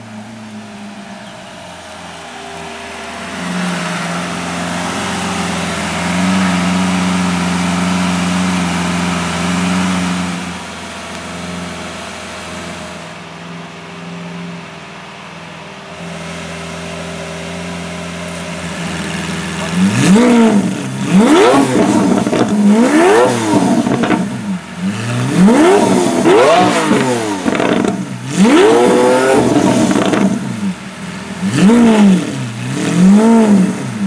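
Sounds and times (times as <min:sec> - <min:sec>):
sports car engine idling: 0:00.0 - 0:34.0.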